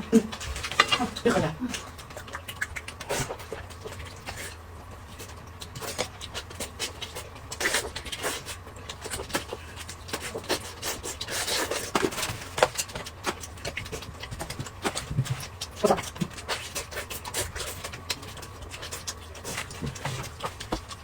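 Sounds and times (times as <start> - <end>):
eating and food handling noises: 0.0 - 21.0.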